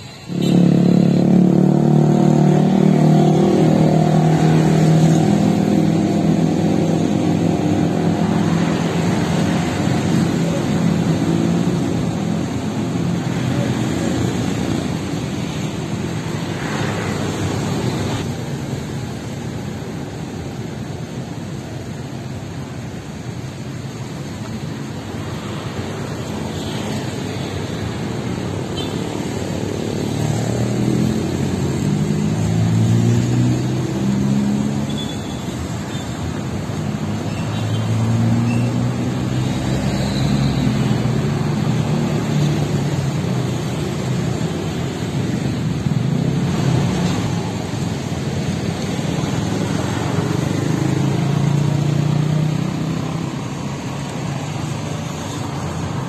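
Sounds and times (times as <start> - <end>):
traffic rumble: 0.0 - 56.0
motorcycle and car engines passing: 0.1 - 56.0.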